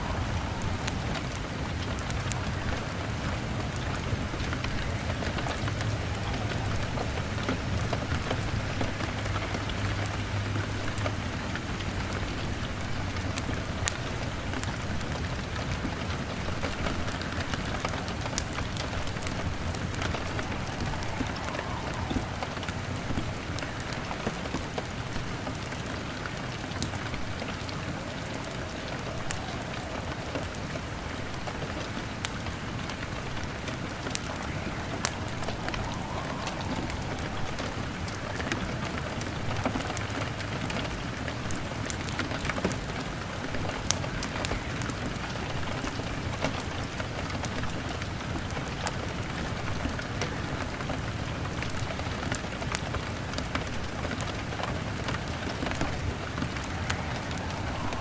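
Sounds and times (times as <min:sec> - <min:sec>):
crackling log fire: 0:00.0 - 0:58.0
rain hammering on window: 0:00.0 - 0:58.0.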